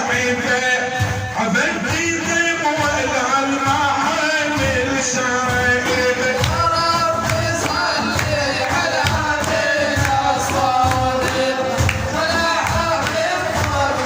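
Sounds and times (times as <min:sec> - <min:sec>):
man singing devotional song: 0:00.0 - 0:14.0
steady percussion beat: 0:00.0 - 0:14.0.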